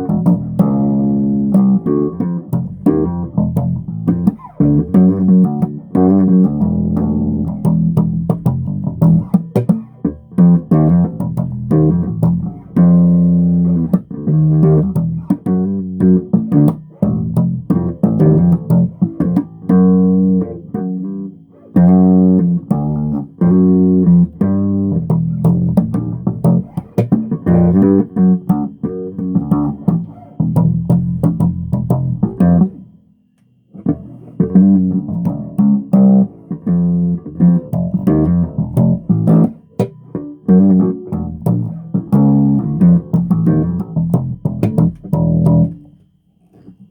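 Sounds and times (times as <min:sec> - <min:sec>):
bass guitar plucking: 0:00.0 - 0:46.9.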